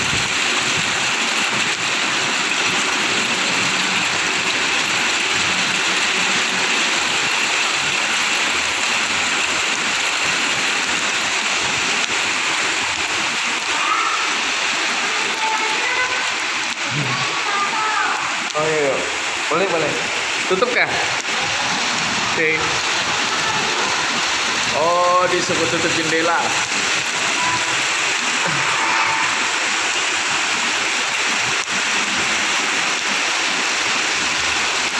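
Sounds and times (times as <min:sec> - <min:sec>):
heavy rain splashing: 0:00.0 - 0:34.9.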